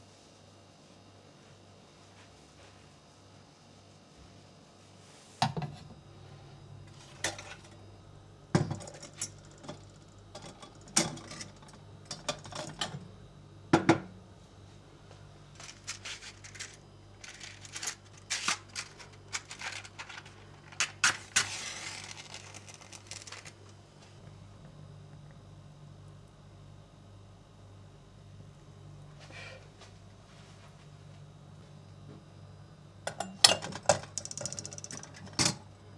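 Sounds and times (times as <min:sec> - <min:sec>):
low steady hum: 0:04.1 - 0:35.9.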